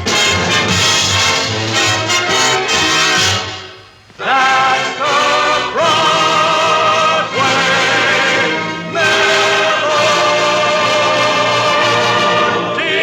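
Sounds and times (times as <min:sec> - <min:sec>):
orchestra and chorus: 0:00.0 - 0:13.0.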